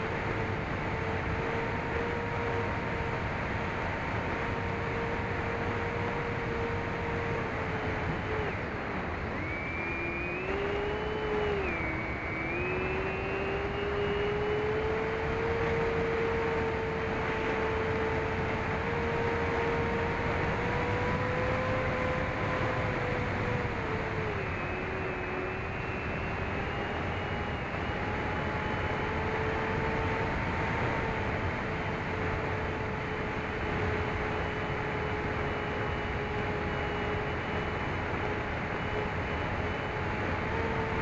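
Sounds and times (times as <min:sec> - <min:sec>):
electric motors and propellers: 0:00.0 - 0:41.0.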